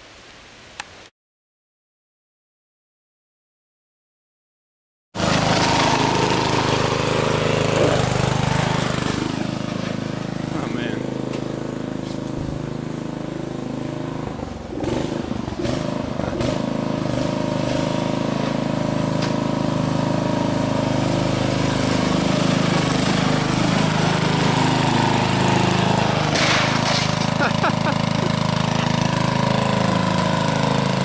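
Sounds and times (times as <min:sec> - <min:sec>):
lawn tractor engine running: 0:05.2 - 0:31.0.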